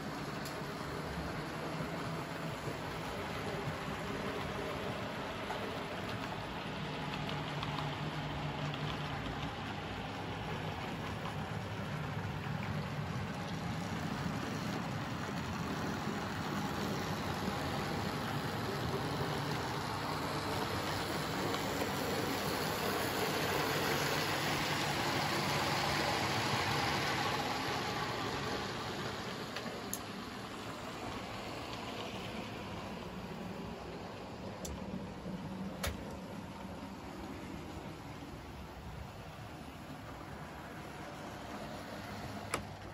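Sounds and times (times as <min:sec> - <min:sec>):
model trains whirring on rails: 0:00.0 - 0:42.9.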